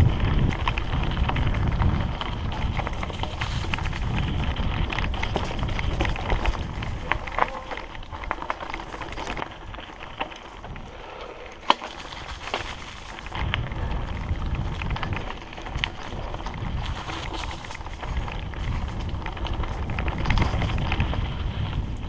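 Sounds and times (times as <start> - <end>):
bike clicks and rattles: 0.0 - 22.0
bike tyres rolling on dirt: 0.0 - 22.0.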